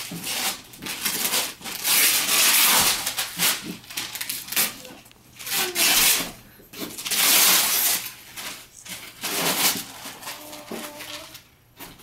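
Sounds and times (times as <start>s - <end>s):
wrapping paper tearing and crumpling: 0.0s - 12.0s.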